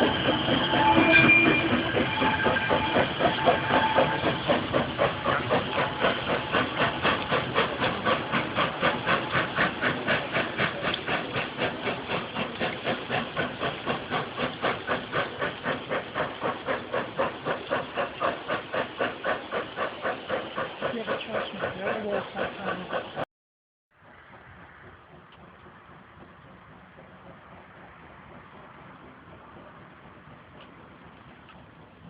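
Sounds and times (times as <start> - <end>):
steam locomotive exhaust chuffing: 0.0 - 23.3, 24.0 - 32.0.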